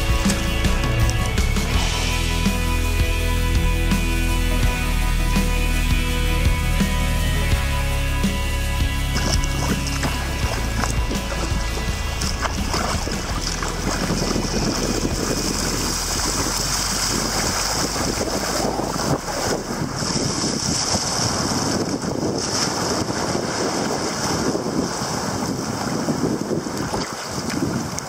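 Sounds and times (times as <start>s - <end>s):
water rushing and splashing: 0.0s - 28.0s
wind rumbling on microphone: 4.8s - 28.0s.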